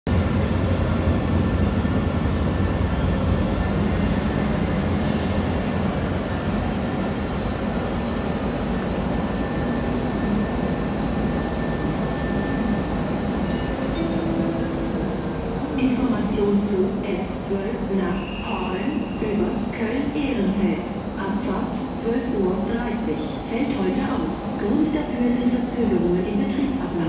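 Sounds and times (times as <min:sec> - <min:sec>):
train rumbling at station: 0:00.0 - 0:27.0.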